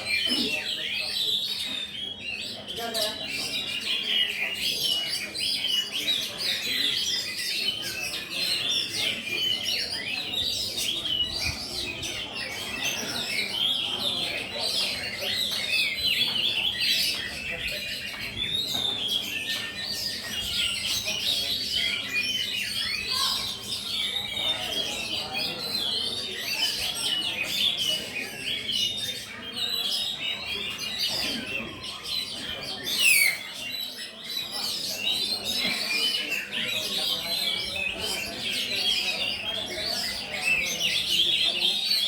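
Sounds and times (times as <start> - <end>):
songbirds chorus of chirps: 0.0 - 42.0.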